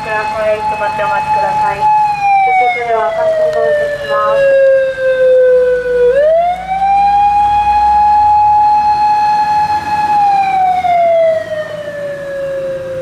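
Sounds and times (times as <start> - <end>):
police car siren wailing: 0.0 - 13.0.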